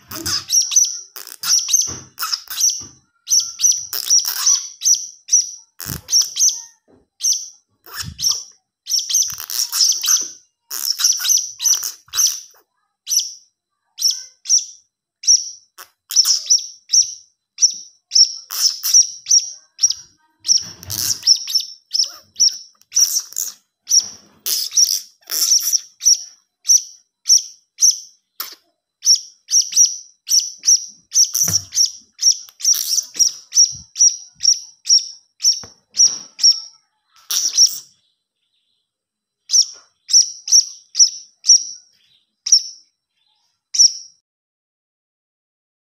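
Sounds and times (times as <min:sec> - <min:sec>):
parrot chirping: 0:00.0 - 0:38.0, 0:39.5 - 0:42.9, 0:43.8 - 0:44.2.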